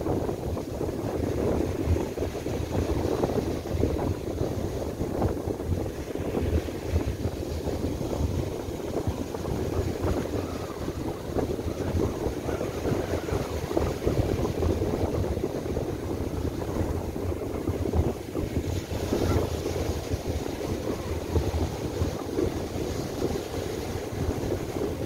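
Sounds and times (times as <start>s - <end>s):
gusty wind buffeting microphone: 0.0s - 25.0s
surf breaking on beach: 0.0s - 25.0s.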